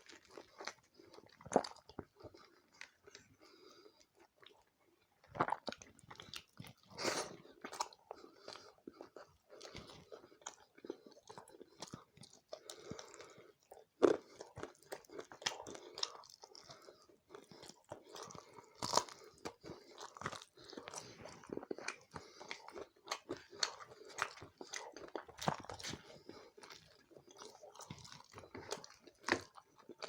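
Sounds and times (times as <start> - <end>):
person chewing and biting: 0.0 - 3.4, 4.1 - 30.0.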